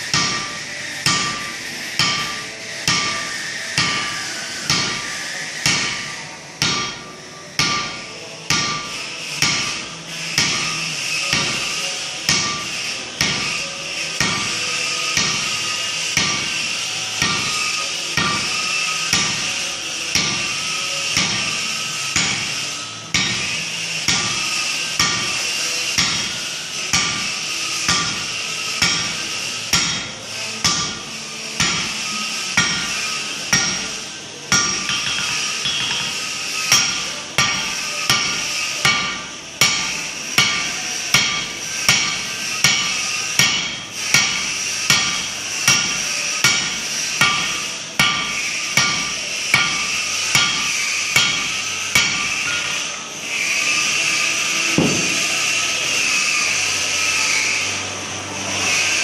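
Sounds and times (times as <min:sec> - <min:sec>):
hammer striking steel on anvil: 0:00.0 - 0:56.6.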